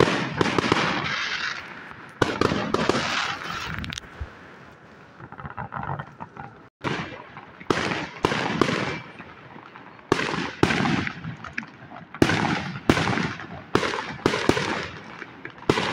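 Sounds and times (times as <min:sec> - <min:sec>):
fireworks bursting: 0:00.0 - 0:15.9.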